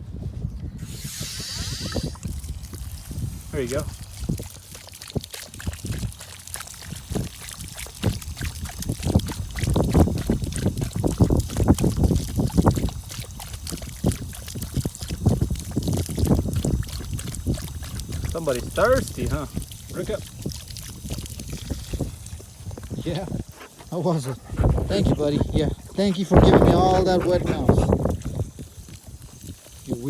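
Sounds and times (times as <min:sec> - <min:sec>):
dog lapping water: 0:00.8 - 0:30.0.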